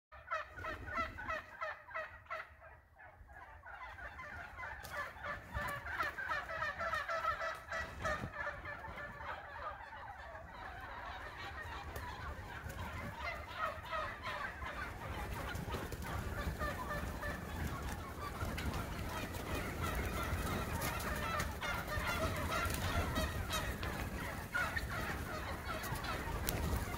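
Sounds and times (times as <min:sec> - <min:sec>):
wild turkeys calling: 0:00.2 - 0:26.9.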